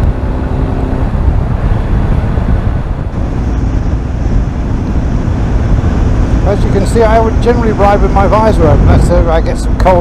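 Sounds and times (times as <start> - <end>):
motorcycle engine rumble: 0.0 - 10.0
wind rushing over microphone: 0.0 - 10.0.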